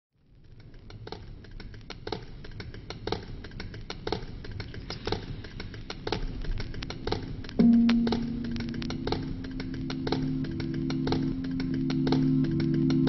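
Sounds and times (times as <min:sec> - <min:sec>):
steady low hum: 0:00.2 - 0:13.0
light clicking and tapping: 0:00.4 - 0:13.0.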